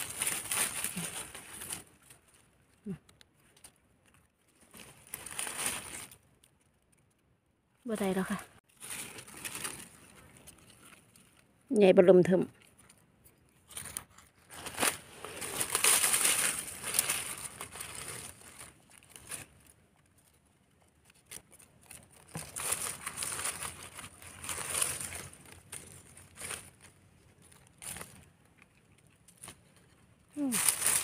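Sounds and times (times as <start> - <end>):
dry leaves crackling and rustling: 0.0 - 7.2, 7.9 - 31.0.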